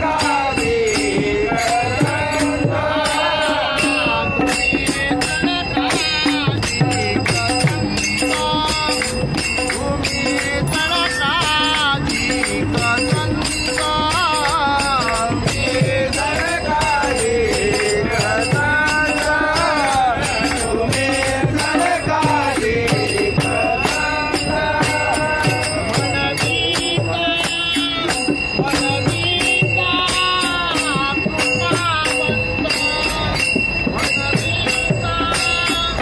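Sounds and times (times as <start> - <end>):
hand cymbals struck in a beat: 0.0 - 36.0
men singing devotional song: 0.0 - 36.0.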